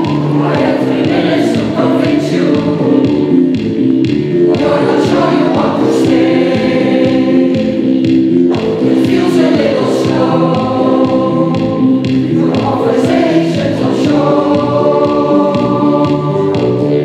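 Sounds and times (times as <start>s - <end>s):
mixed choir singing in harmony: 0.0s - 17.0s.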